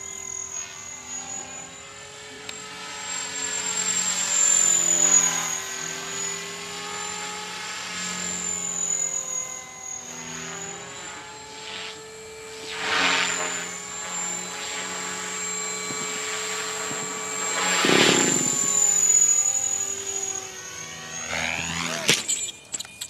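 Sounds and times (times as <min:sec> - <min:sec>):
rc helicopter motor whine: 0:00.0 - 0:23.0
rotor blade noise: 0:00.0 - 0:23.0.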